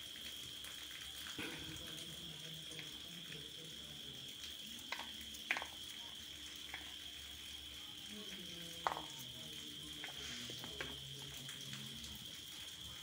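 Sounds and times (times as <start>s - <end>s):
high-pitched hiss: 1.4s - 12.2s.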